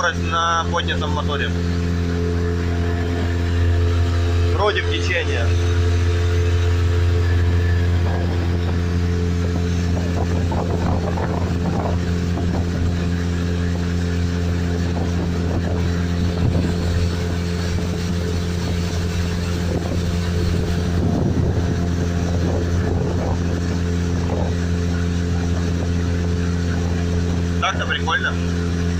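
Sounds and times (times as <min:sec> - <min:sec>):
outboard motor running: 0:00.0 - 0:28.9
water and wind hiss: 0:00.0 - 0:28.9.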